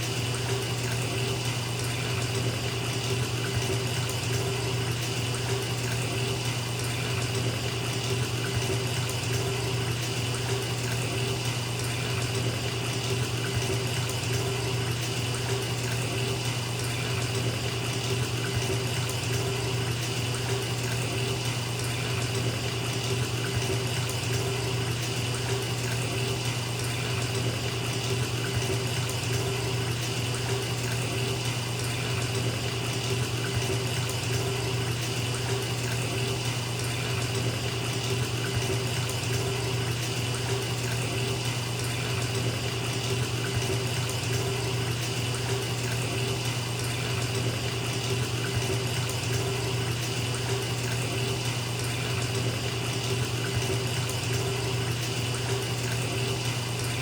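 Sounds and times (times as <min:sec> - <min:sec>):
tap running into a tub: 0:00.0 - 0:57.0.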